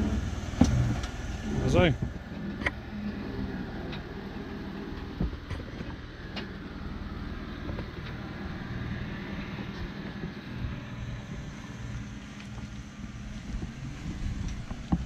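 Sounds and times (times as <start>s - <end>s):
off-road vehicle engine: 0.0s - 15.0s.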